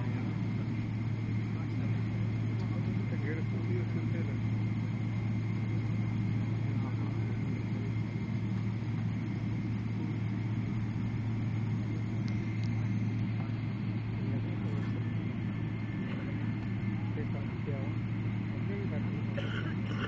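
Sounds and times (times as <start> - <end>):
airliner cabin rumble: 0.0 - 20.0
faint high whine: 0.0 - 20.0.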